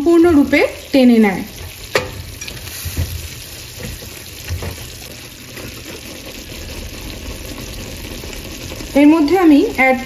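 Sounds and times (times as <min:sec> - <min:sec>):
syrup bubbling in a pan: 0:00.0 - 0:10.0.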